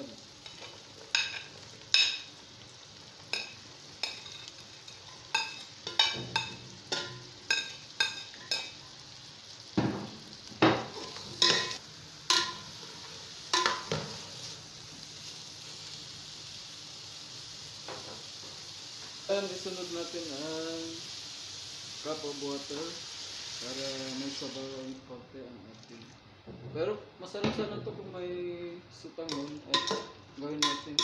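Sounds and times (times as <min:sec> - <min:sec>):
frying sizzle: 0:00.0 - 0:25.0, 0:29.3 - 0:31.0.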